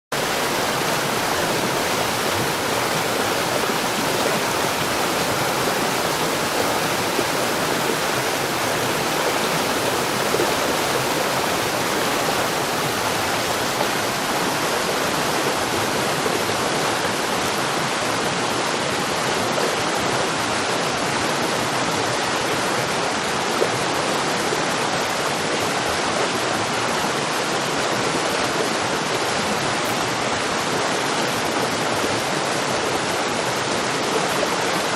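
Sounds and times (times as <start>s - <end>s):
water flowing: 0.1s - 34.9s.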